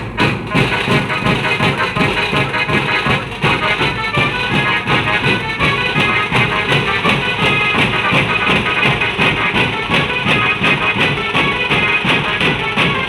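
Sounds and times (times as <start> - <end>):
fast steady drum beat: 0.0 - 13.0.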